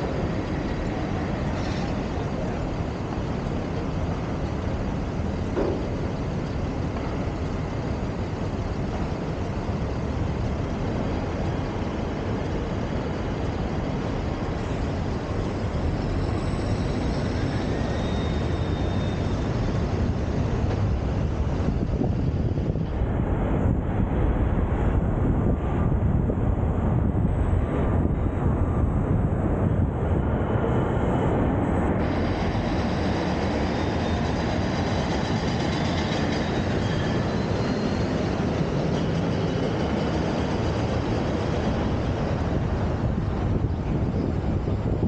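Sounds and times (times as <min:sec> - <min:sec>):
road and traffic noise: 0:00.0 - 0:45.0.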